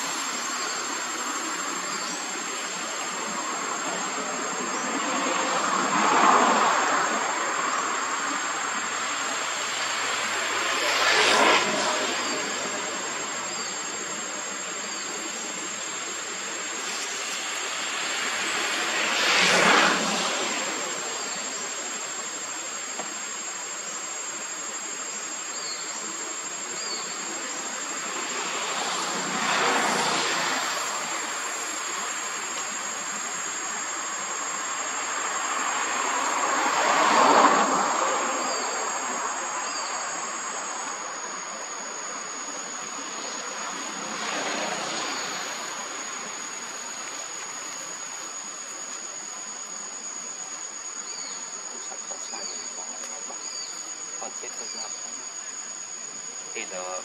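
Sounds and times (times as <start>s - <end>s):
insects shrilling: 0.0s - 57.0s
outdoor hiss: 0.0s - 57.0s.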